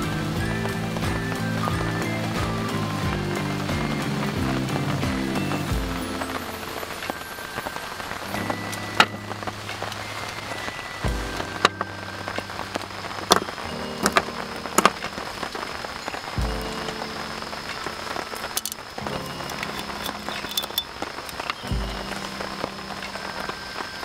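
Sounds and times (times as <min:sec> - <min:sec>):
rain falling: 0:00.0 - 0:24.0
soft background music: 0:00.0 - 0:24.0.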